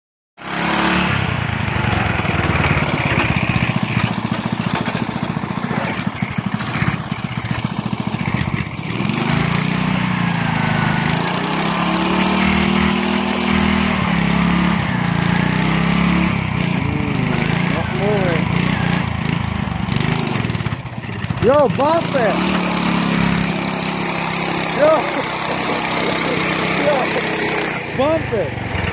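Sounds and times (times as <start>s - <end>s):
small tractor engine under load: 0.4s - 28.9s.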